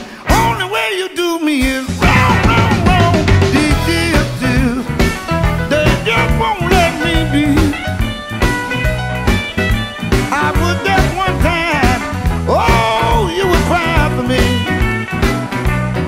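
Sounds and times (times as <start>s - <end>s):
electric blues band playing: 0.0s - 16.0s
bending lead guitar line: 1.8s - 16.0s.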